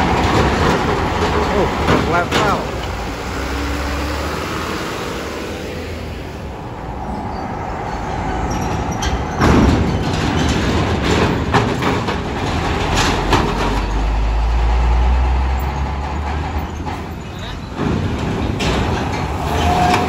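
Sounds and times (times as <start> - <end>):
wheels clanking over steel plates: 0.0 - 4.4, 6.4 - 20.0
truck engines running: 0.0 - 20.0.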